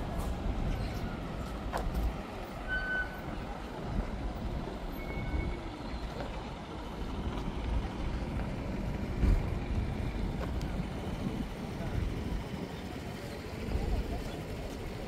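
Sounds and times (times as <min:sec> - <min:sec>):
low rumble of passing traffic: 0:00.0 - 0:15.0.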